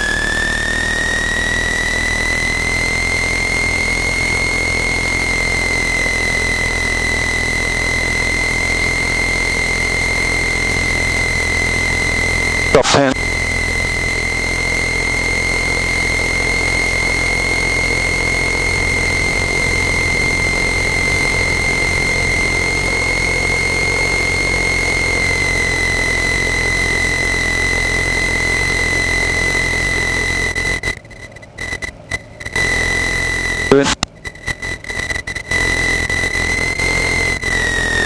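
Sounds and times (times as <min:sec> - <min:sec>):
aircraft engine idling: 0:00.0 - 0:30.9
high-pitched whine: 0:00.0 - 0:38.0.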